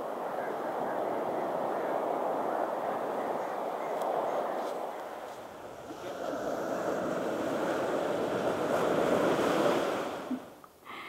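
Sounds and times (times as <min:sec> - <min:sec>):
sea waves washing in: 0:00.0 - 0:10.6.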